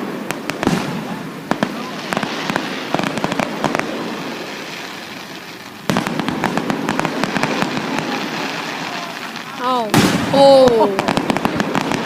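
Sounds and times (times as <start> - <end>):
fireworks cracking and popping: 0.0 - 12.0
fireworks crackling: 0.0 - 12.0
rumble of firework bursts: 0.0 - 12.0.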